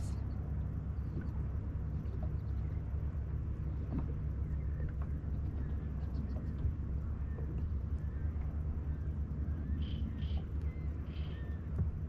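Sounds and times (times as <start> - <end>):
water lapping against hull: 0.0 - 12.0
wind rumble on microphone: 0.0 - 12.0.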